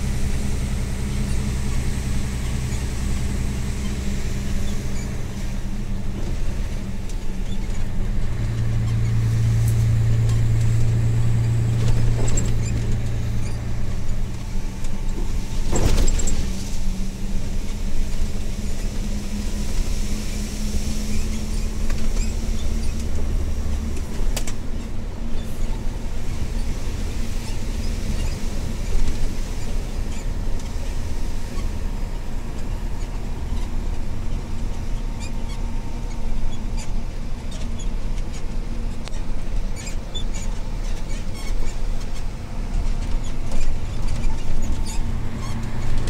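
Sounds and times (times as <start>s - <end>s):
diesel truck engine drone: 0.0s - 46.0s.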